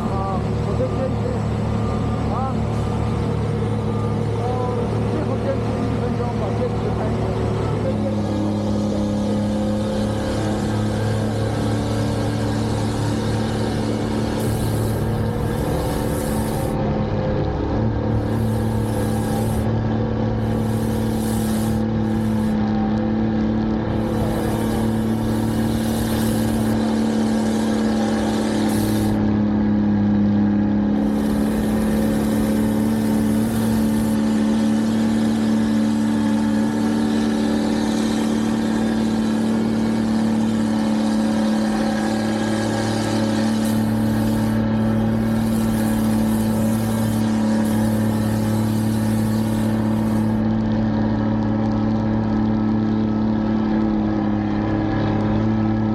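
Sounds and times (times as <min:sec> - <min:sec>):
machinery engine running: 0:00.0 - 0:55.9.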